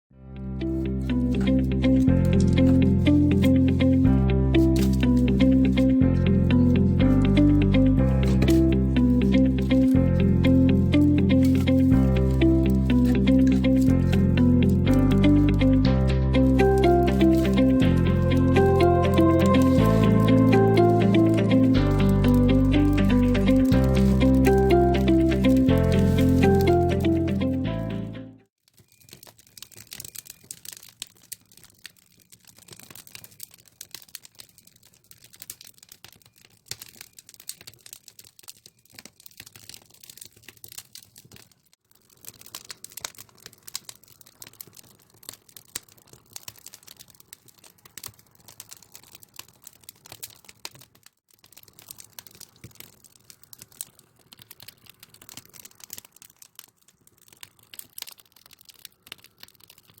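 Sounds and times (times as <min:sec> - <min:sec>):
firewood crackling and popping: 0:00.6 - 1:00.0.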